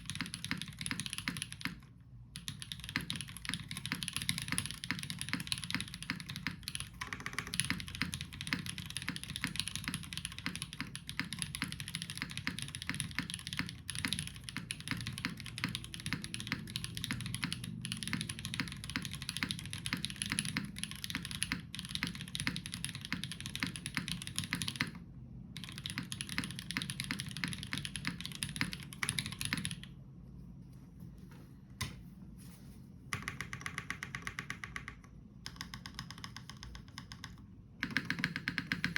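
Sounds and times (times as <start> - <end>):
mechanical keyboard typing: 0.0 - 30.0, 33.1 - 38.9.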